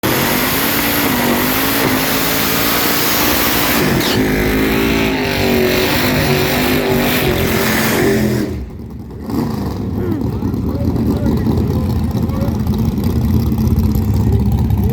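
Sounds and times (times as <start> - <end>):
car engine revving hard: 0.0 - 14.2.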